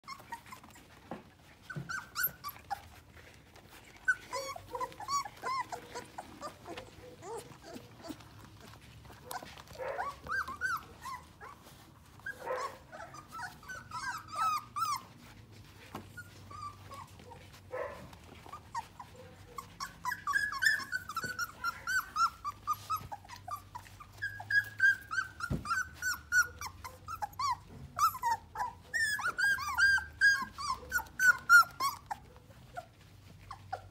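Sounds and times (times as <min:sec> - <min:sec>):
puppies whining: 0:00.0 - 0:33.9.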